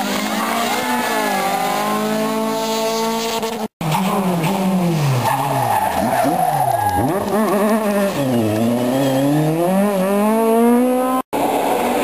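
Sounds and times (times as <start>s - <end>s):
rally car engine at high revs: 0.0s - 12.0s
rally car engine revving on and off: 0.0s - 12.0s.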